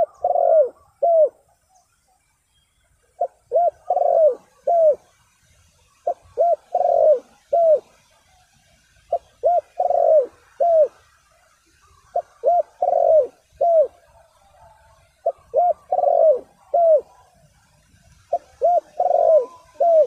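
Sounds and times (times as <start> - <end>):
dove cooing: 0.0 - 1.6, 3.0 - 5.2, 6.0 - 20.0.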